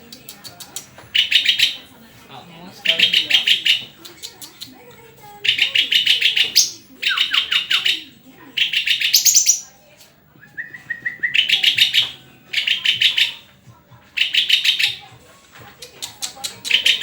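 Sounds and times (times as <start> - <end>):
songbird singing: 0.0 - 2.0, 2.7 - 13.6, 14.2 - 15.1, 15.8 - 17.0.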